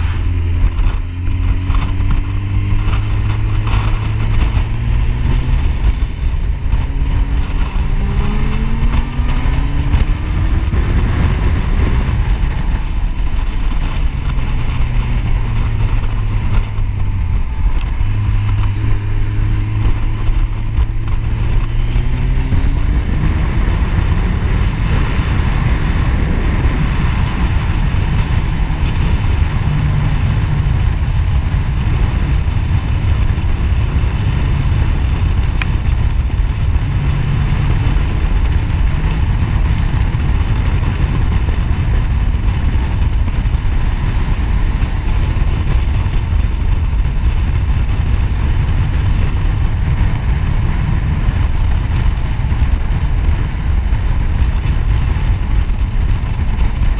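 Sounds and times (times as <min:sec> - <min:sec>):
motorcycle engine drone: 0:00.0 - 0:56.9
wind rumble on microphone: 0:00.0 - 0:56.9.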